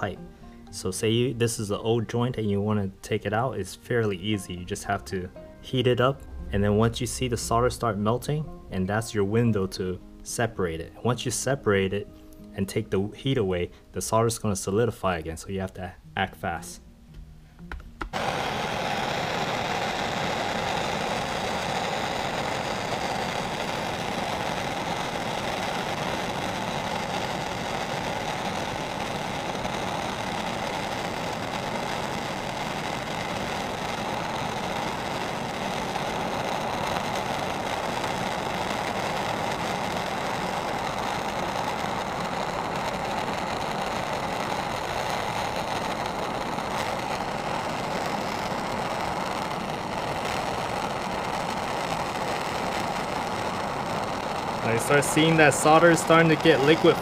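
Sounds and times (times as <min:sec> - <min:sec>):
torch flame burning: 0:00.0 - 0:12.0, 0:17.7 - 0:57.0.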